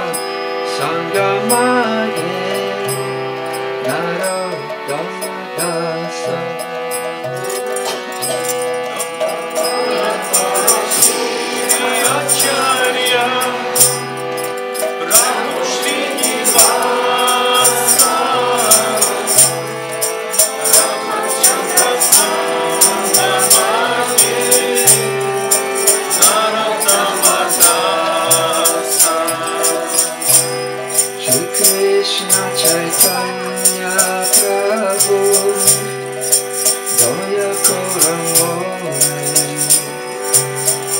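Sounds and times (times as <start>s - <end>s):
people singing: 0.0s - 6.8s, 7.4s - 40.9s
harmonium chords: 0.0s - 40.9s
hand cymbals clashing: 1.4s - 40.9s.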